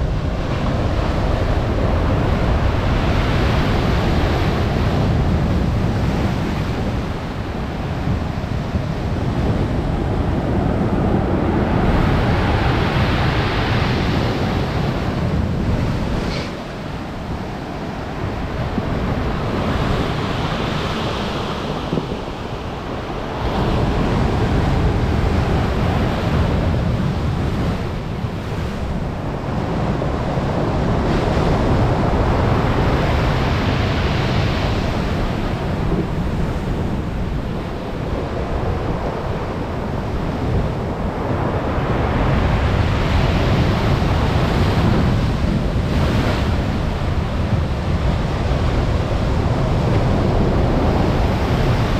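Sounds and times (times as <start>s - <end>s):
surf breaking on shore: 0.0s - 51.9s
wind rumbling on microphone: 0.0s - 51.9s.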